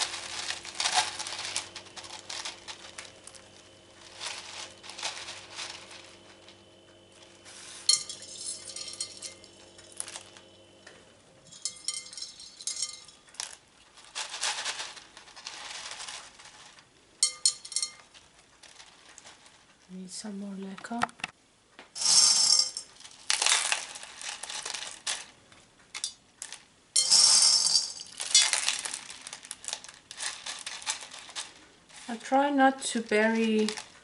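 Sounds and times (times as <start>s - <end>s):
clay pebbles rattling and clinking: 0.0s - 10.5s, 11.4s - 20.0s, 22.0s - 34.0s.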